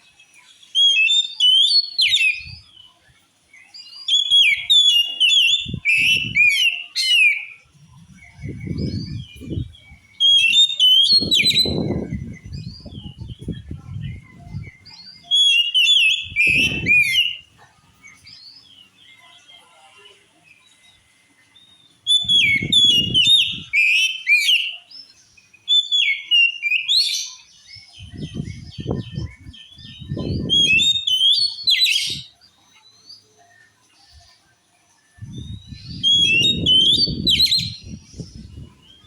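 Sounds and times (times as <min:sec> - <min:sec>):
bird singing whistled trills: 0:00.0 - 0:39.0.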